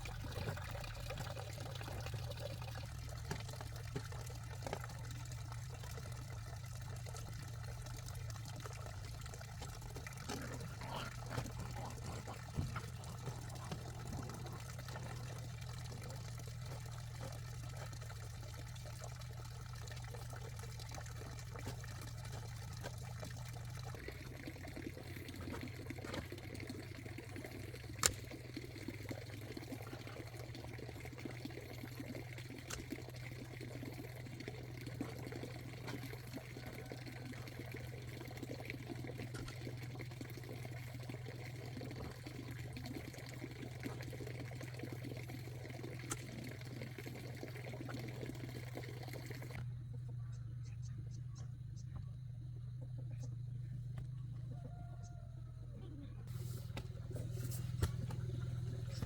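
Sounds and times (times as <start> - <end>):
water pouring and trickling: 0.0 - 49.7
low steady hum: 0.0 - 59.0.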